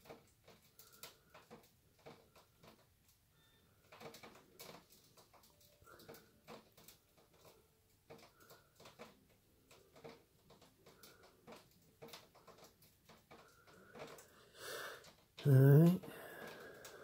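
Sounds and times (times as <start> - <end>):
faint small clicks and taps: 0.0 - 14.4, 15.0 - 15.5.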